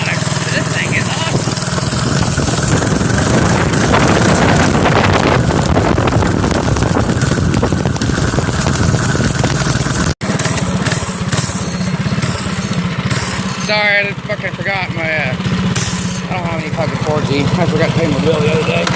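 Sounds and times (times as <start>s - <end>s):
minibike engine running: 0.0s - 18.9s.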